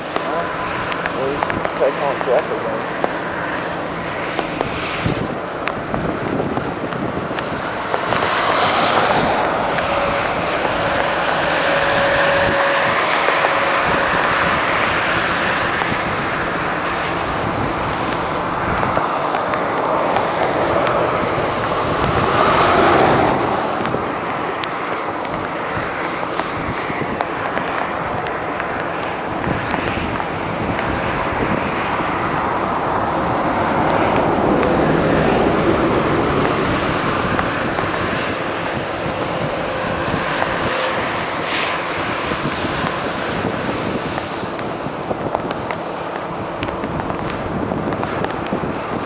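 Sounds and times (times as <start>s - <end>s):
rushing wind: 0.0s - 49.0s.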